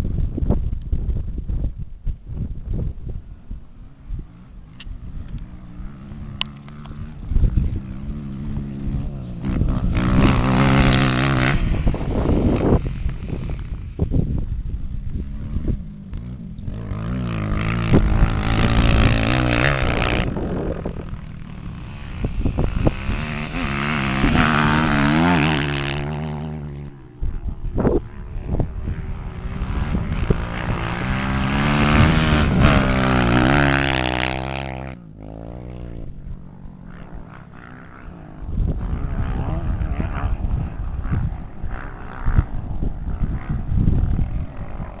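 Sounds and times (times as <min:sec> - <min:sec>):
off-road motorcycle engines revving: 0:02.6 - 0:45.0.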